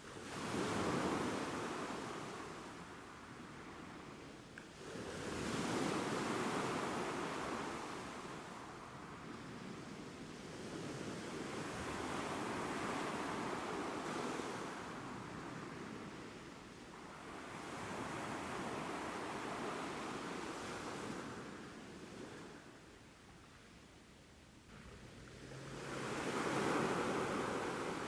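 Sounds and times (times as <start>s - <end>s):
ocean waves washing ashore: 0.0s - 23.1s, 24.7s - 28.0s.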